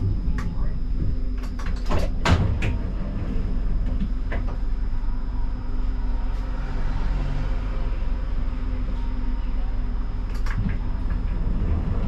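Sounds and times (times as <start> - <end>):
tram running hum: 0.0 - 12.0.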